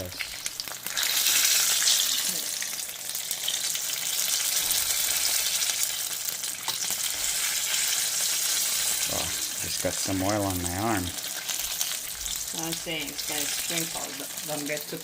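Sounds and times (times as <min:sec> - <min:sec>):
spring rolls sizzling in hot oil: 0:00.0 - 0:15.0.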